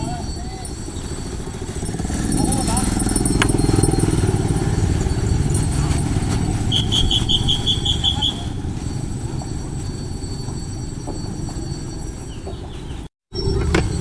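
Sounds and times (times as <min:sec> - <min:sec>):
motorcycle engine and wind rumble: 0:00.0 - 0:14.0.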